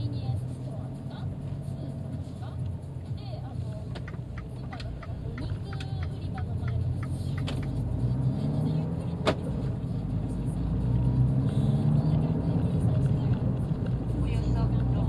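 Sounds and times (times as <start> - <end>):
car engine drone: 0.0 - 15.0
road noise inside car: 0.0 - 15.0.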